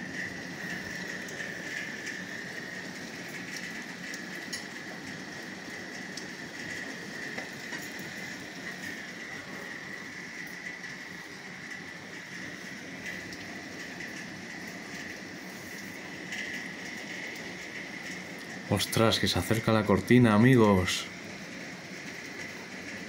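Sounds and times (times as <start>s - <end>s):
rain on rooftops: 0.0s - 23.0s
steady high-pitched whine: 0.0s - 23.0s.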